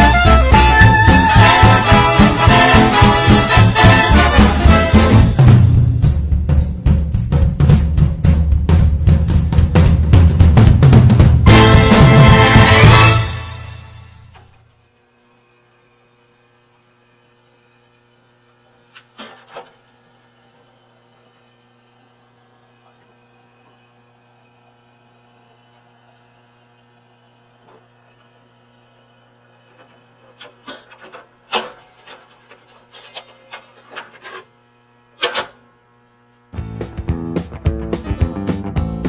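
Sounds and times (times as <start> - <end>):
electrical mains hum: 0.0 - 39.0.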